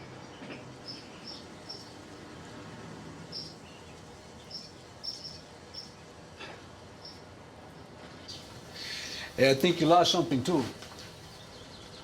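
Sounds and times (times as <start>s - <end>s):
quiet outdoor ambience: 0.0s - 12.0s.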